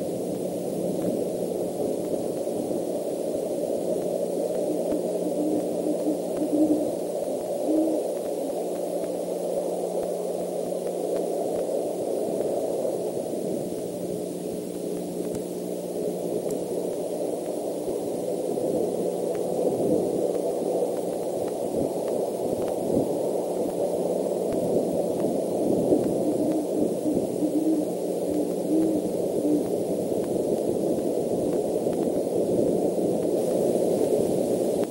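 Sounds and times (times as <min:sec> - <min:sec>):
faint ticks: 0:00.0 - 0:03.0, 0:03.6 - 0:34.9
low steady hum: 0:00.0 - 0:34.9
microphone hiss and rushing: 0:00.0 - 0:34.9.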